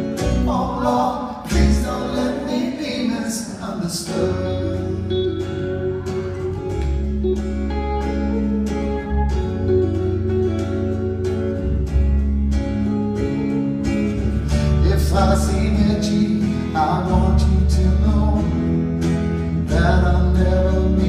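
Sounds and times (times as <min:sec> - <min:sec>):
held bass notes: 0:00.0 - 0:02.7, 0:04.1 - 0:21.0
strummed acoustic guitar: 0:00.0 - 0:21.0.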